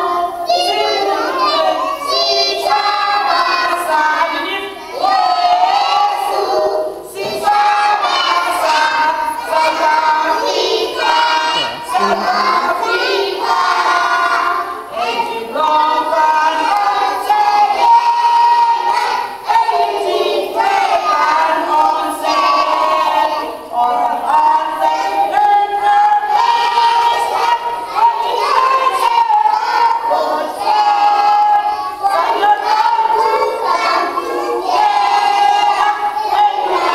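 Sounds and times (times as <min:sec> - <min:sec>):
children singing in unison: 0:00.0 - 0:36.9.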